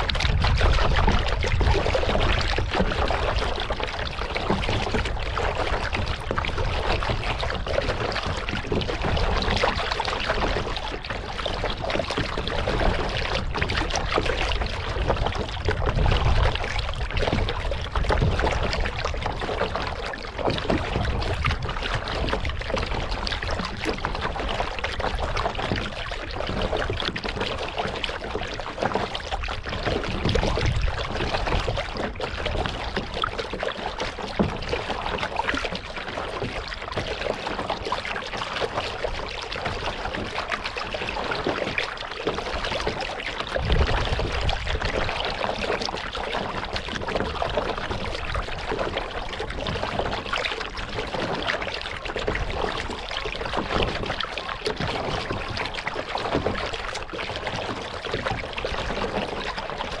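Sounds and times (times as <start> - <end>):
paddle splashing water: 0.0 - 60.0
water dripping off paddle: 0.0 - 60.0.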